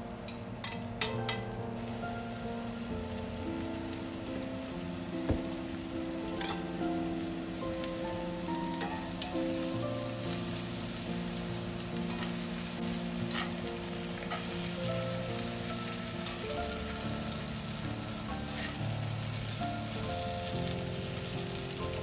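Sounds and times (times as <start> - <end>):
soft background music: 0.0 - 22.0
mushrooms sizzling in a skillet: 0.2 - 22.0.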